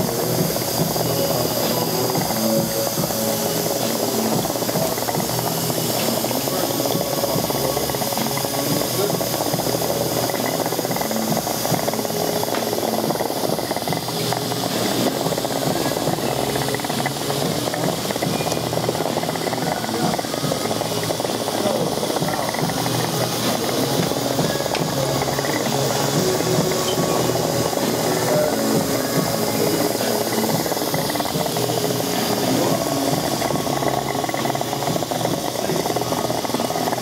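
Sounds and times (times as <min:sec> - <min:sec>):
background music with bass line: 0:00.0 - 0:37.0
steady hiss: 0:00.0 - 0:37.0.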